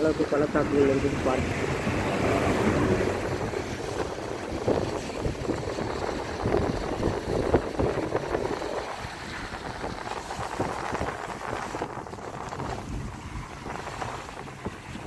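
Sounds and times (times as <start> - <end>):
car road noise: 0.0 - 15.0
wind rushing over microphone: 0.0 - 15.0.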